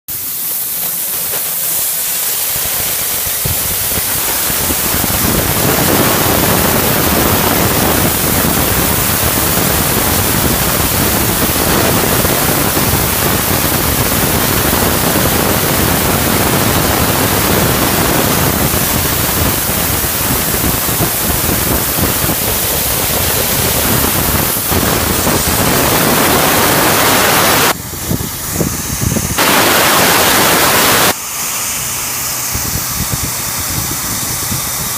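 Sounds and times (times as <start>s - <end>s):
laser cutter air and fan hiss: 0.1s - 34.9s.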